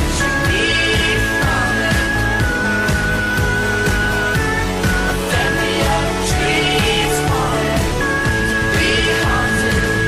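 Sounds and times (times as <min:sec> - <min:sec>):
song with steady drum beat: 0:00.0 - 0:10.0.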